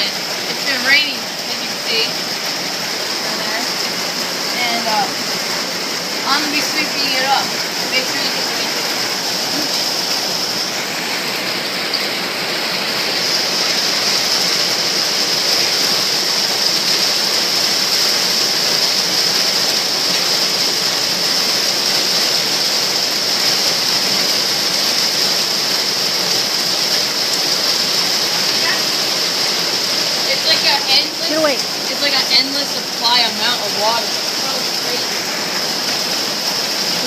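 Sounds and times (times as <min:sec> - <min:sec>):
rainwater rushing and splashing: 0:00.0 - 0:37.0.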